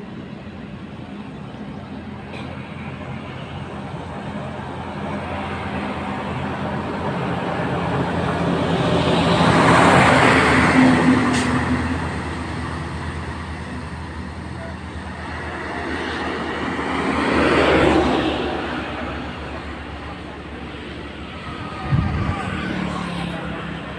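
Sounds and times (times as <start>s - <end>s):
vehicles driving past: 0.0s - 23.9s.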